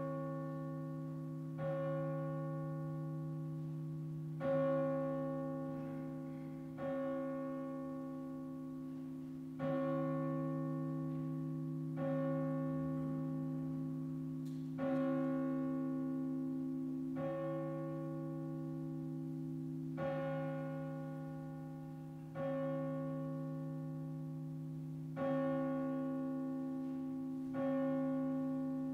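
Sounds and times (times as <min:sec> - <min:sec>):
church bell tolling: 0:00.0 - 0:28.9.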